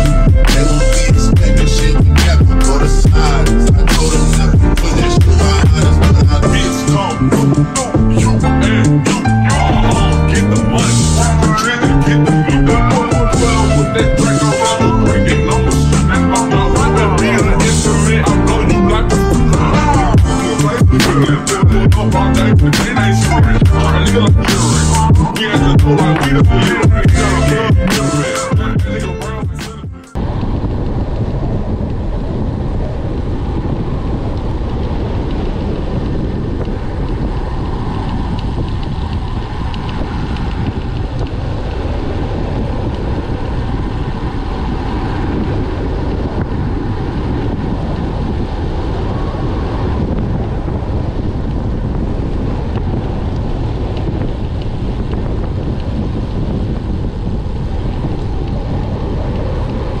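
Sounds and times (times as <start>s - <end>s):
wind buffeting microphone: 0.0s - 60.0s.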